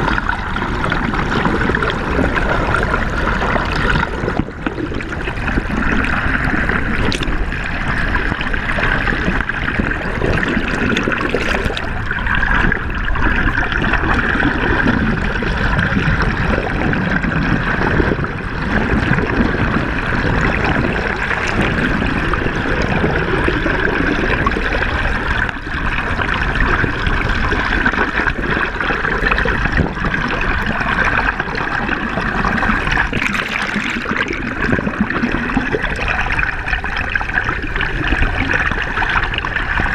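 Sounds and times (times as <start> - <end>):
river water rushing underwater: 0.0 - 39.9.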